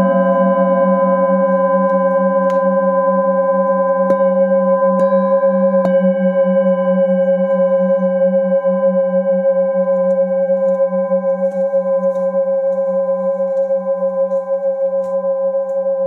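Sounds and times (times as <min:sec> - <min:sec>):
metal singing bowls ringing: 0:00.0 - 0:16.0.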